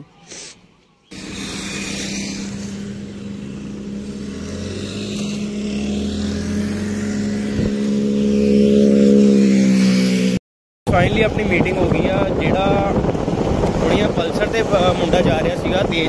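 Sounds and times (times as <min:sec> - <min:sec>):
motorcycle engine droning: 0:01.1 - 0:16.0.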